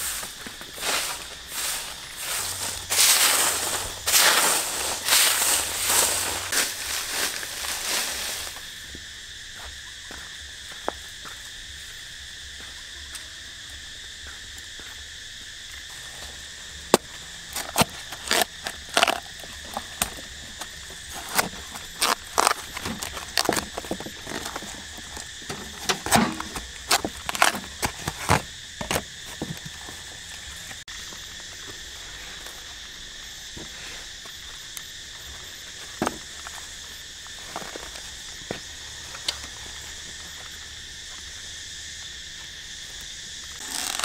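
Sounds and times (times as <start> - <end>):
insects chorus: 0.0 - 44.0.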